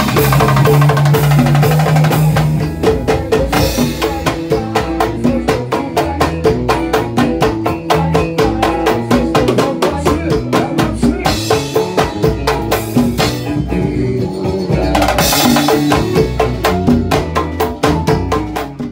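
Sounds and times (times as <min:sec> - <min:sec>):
up-tempo band music: 0:00.0 - 0:18.9.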